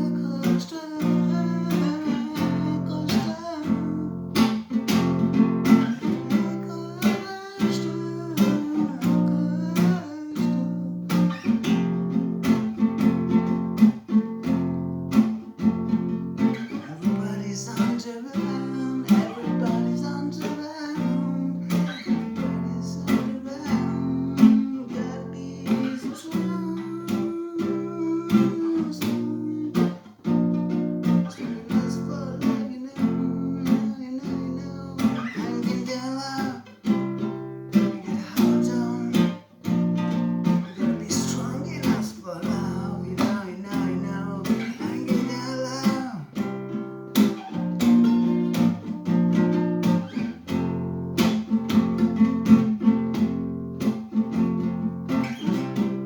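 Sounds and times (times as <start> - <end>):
acoustic guitar strumming chords: 0.0 - 56.0.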